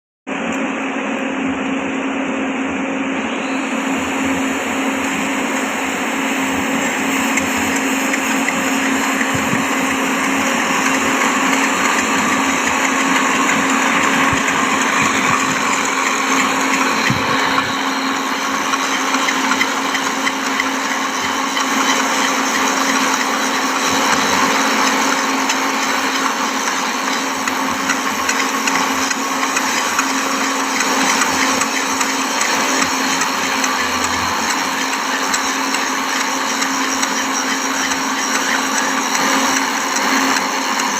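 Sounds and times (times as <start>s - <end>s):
grinder grinding steel rail: 4.6s - 40.9s.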